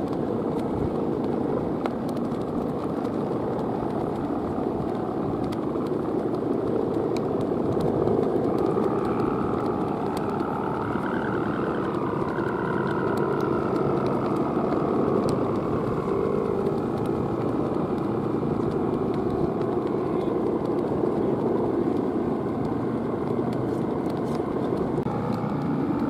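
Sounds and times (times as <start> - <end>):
kite hummer droning: 0.0 - 26.0.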